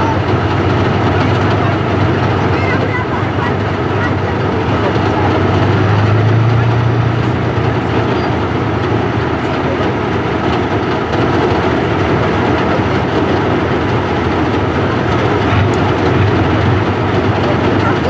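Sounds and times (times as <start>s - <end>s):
diesel engine droning: 0.0s - 18.0s
steel tracks rattling: 0.0s - 18.0s.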